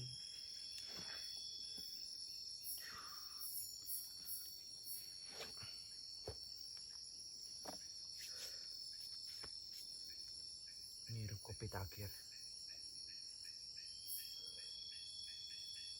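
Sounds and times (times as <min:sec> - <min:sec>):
insects chirping: 0:00.0 - 0:15.9.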